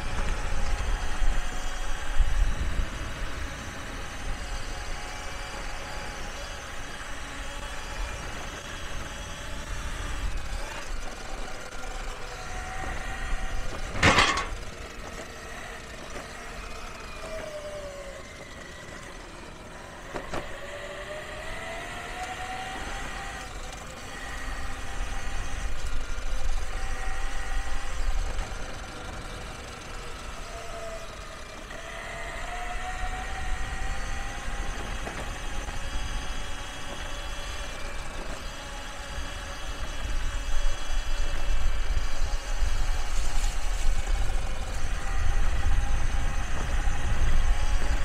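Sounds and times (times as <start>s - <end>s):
gear drive whining: 0.0s - 48.0s
wheels rolling on pavement: 0.0s - 48.0s.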